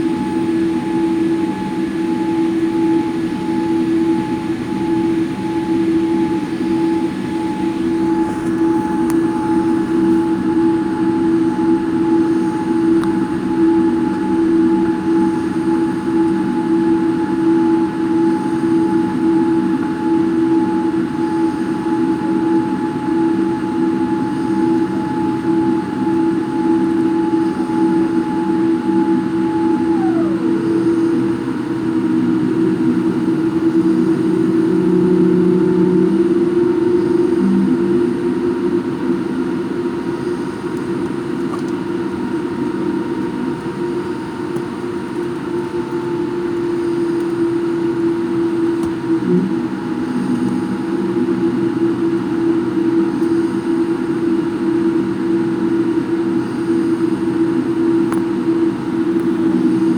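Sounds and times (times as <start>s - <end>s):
jet engine cabin hum and whine: 0.0s - 59.9s.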